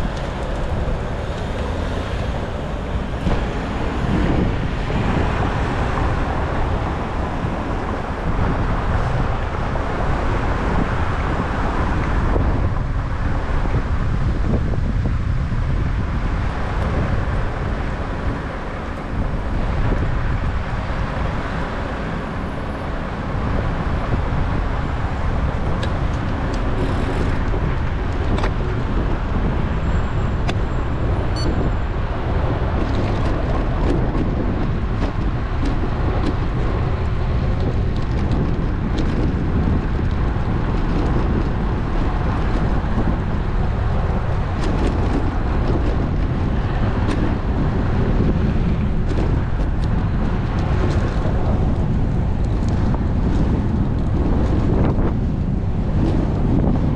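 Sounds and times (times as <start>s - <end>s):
road and tyre noise: 0.0s - 56.9s
wind rushing over microphone: 0.0s - 56.9s.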